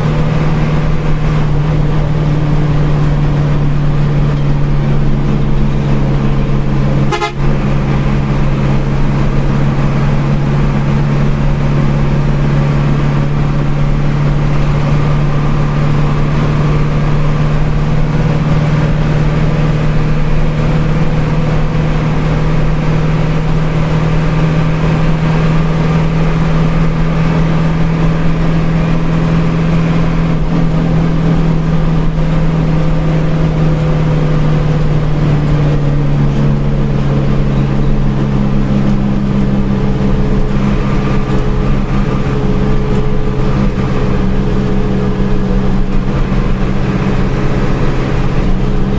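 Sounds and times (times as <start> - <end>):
bus engine drone: 0.0 - 48.9.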